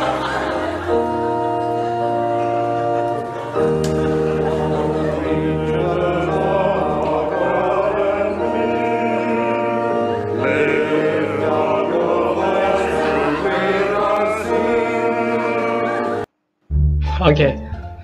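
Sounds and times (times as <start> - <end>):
congregation singing a hymn: 0.0 - 16.3
organ holding long chords: 0.0 - 16.3.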